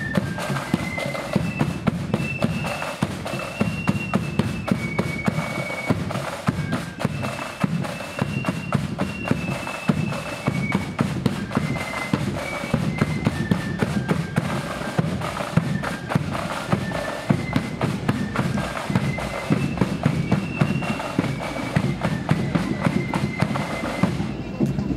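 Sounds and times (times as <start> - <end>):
rapid snare drumming: 0.0 - 24.3
flutes playing high melody: 0.0 - 24.7.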